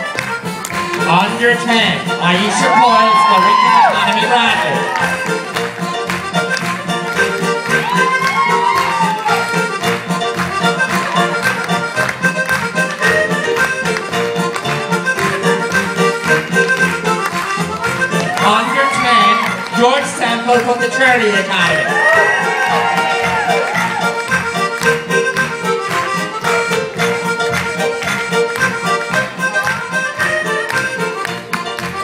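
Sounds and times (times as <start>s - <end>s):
accordion dance tune: 0.0s - 32.0s.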